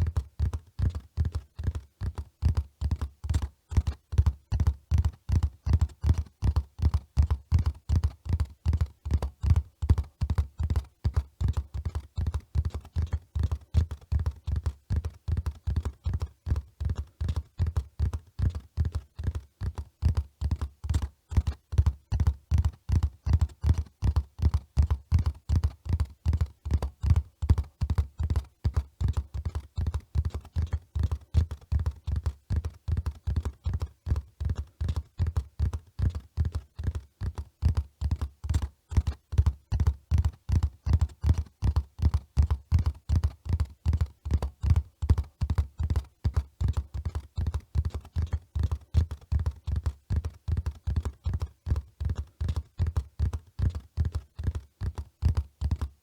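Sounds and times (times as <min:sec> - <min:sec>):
horse hoofbeats: 0:00.0 - 0:56.0.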